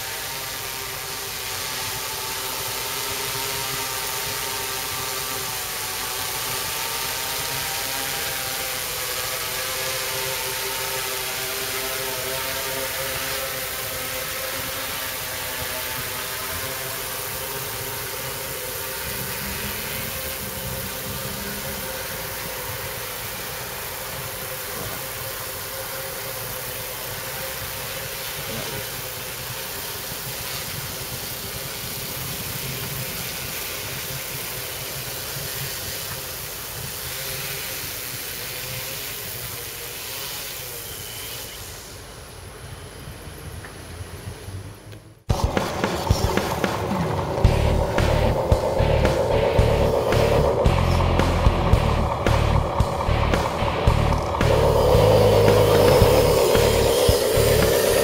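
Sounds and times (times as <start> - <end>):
drone propellers humming: 0.0 - 36.9, 45.3 - 58.0.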